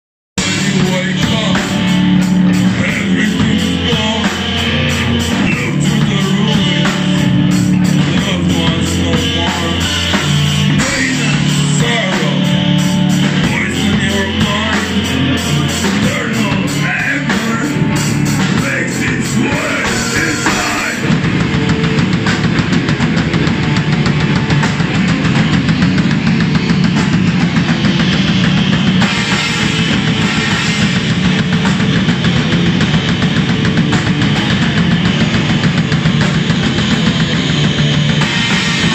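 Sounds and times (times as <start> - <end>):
bass guitar: 0.4 - 38.9
distorted electric guitars: 0.4 - 38.9
drum kit: 0.4 - 38.9.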